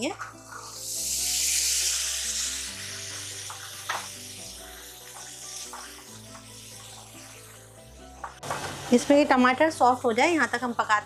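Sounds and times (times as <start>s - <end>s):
background music: 0.0s - 11.0s
chickpeas sizzling in hot oil: 0.0s - 11.0s.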